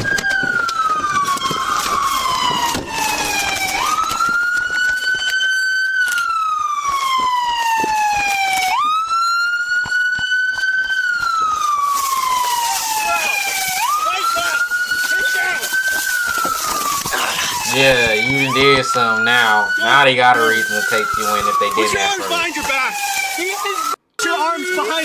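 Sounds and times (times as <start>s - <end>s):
police siren wailing: 0.0s - 25.0s.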